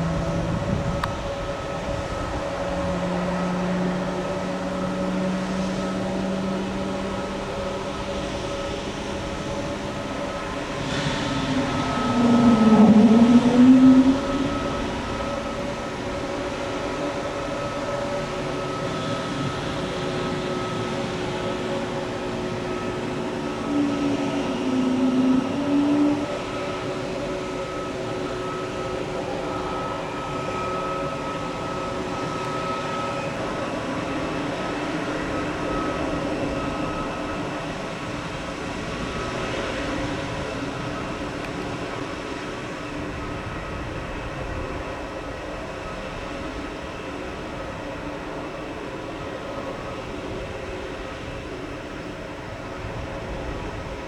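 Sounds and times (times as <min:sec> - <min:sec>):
jet engines idling whine: 0:00.0 - 0:54.0
louder low drone: 0:00.0 - 0:54.0.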